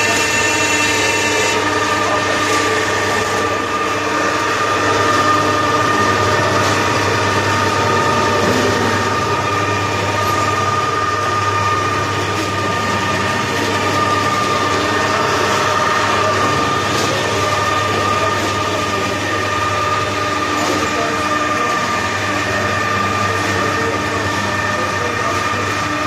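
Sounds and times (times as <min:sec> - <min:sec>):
feed mixer humming and whining: 0:00.0 - 0:26.0.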